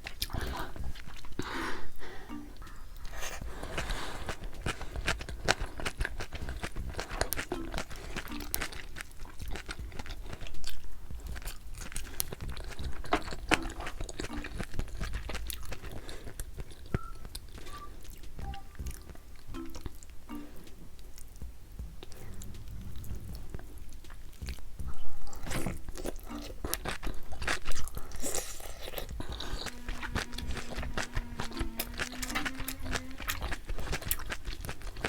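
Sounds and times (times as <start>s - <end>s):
wet chewing and crunching: 0.0s - 2.0s, 2.6s - 35.0s.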